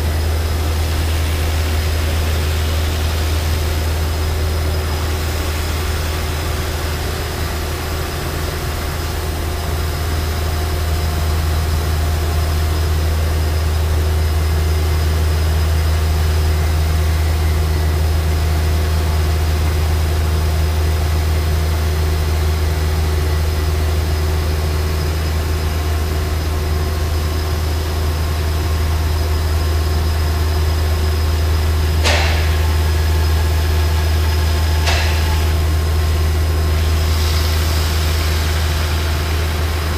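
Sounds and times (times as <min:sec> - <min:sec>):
saw machine humming: 0:00.0 - 0:39.9.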